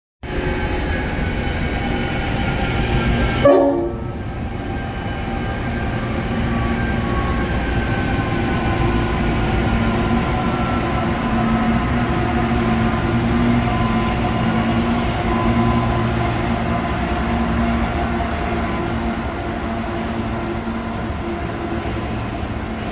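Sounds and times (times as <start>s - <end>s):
locomotive whine: 0.2s - 22.9s
locomotive engines droning: 0.3s - 22.9s.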